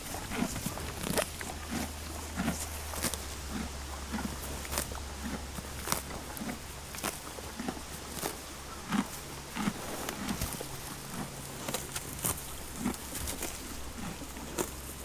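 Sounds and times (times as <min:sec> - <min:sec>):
horse hooves walking: 0:00.0 - 0:15.0
steady low hum: 0:00.0 - 0:15.0.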